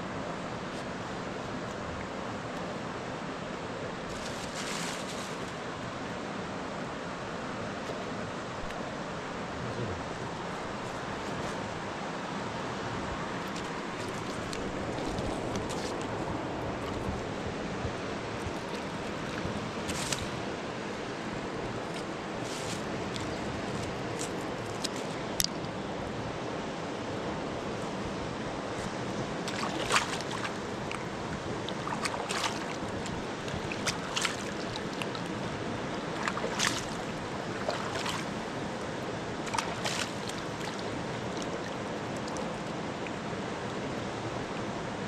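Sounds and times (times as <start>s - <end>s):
river water running: 0.0s - 45.0s.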